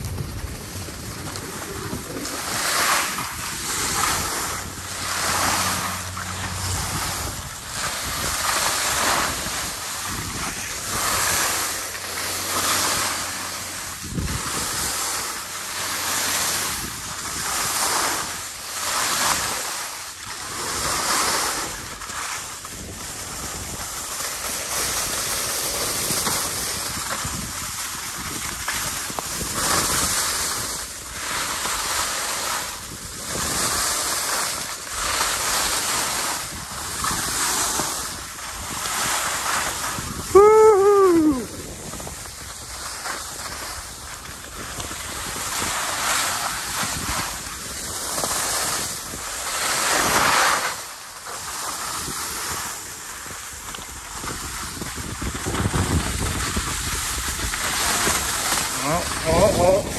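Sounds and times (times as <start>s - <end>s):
skis swooshing on snow: 0.0s - 59.9s
wind rushing over microphone: 0.0s - 59.9s.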